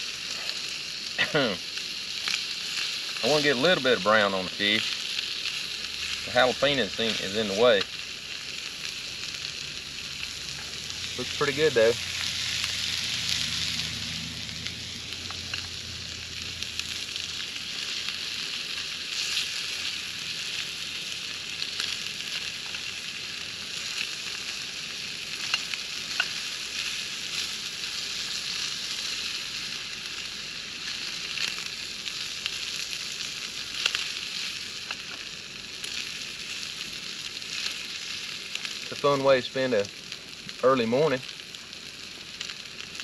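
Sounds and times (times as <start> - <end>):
fish sizzling in oil: 0.0 - 43.0.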